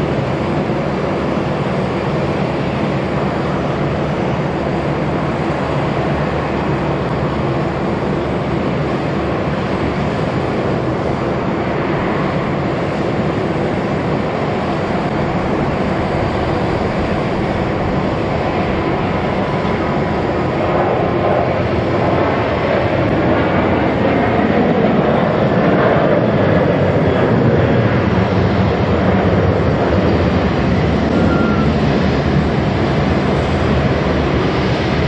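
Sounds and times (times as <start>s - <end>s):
jet engines roaring with whine: 0.0s - 35.0s.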